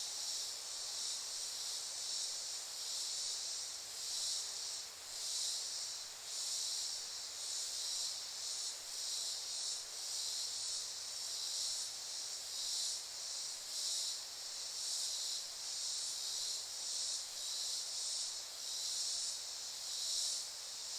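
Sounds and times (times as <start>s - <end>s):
insects singing in chorus: 0.0s - 20.9s.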